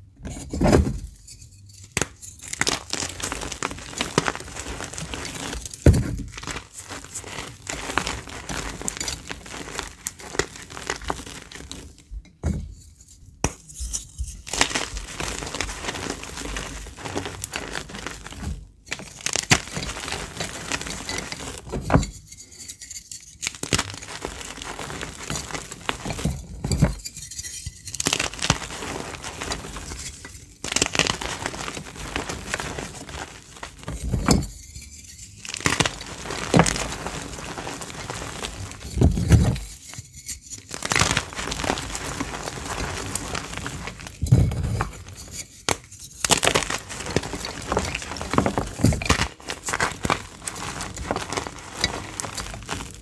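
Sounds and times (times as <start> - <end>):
chalk crunching and crumbling: 1.3 - 53.0.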